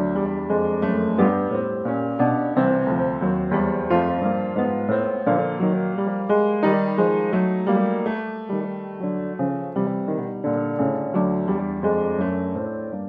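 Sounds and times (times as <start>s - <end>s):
piano chords and notes: 0.0s - 13.0s.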